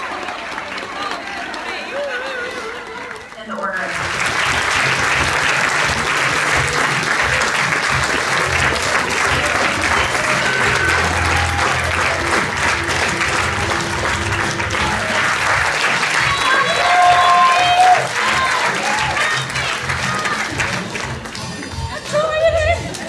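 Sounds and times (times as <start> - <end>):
audience applauding: 0.0 - 23.0
background music: 0.0 - 23.0.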